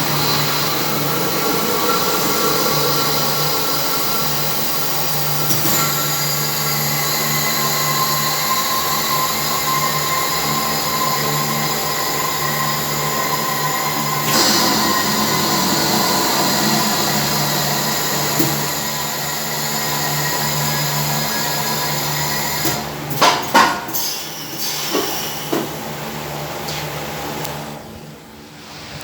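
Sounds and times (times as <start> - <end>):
washing machine motor hum and whine: 0.0 - 29.0.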